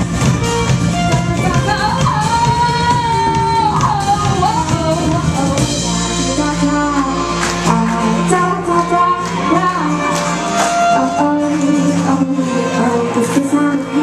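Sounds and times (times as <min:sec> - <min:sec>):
live band playing: 0:00.0 - 0:14.0
person singing: 0:01.2 - 0:14.0.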